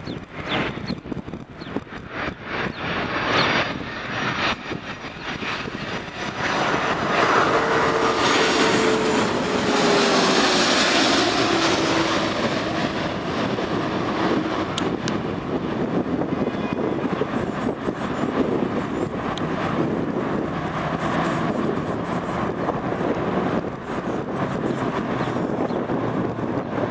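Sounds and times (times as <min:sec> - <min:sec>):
jet airliner passing overhead: 0:00.0 - 0:26.9
jet engine whine falling in pitch: 0:00.0 - 0:26.9.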